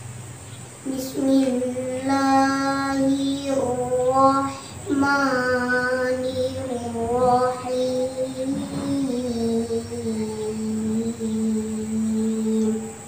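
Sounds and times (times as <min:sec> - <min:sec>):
girl chanting recitation: 0:00.8 - 0:13.0.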